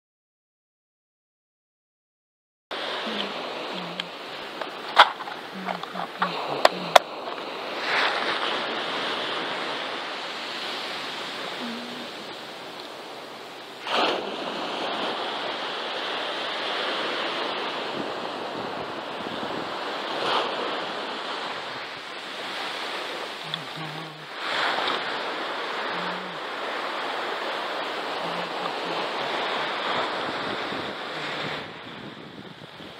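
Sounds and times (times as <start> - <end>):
surf washing on shore: 2.7 - 32.9
wave breaking: 2.8 - 32.9.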